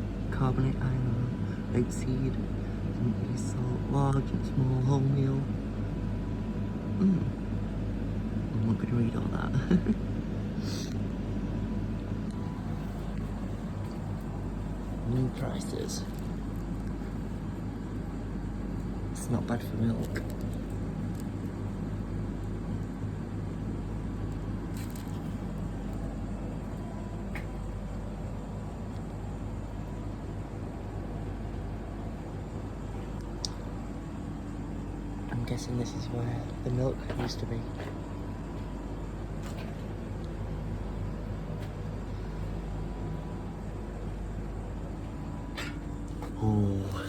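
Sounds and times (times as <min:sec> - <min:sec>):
refrigeration unit humming: 0:00.0 - 0:47.0.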